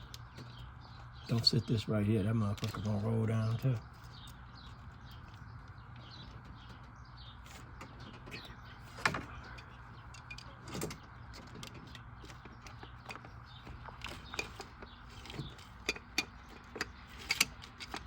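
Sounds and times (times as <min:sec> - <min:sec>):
faint bird chirps: 0:00.0 - 0:17.1
steady low hum: 0:00.0 - 0:18.0.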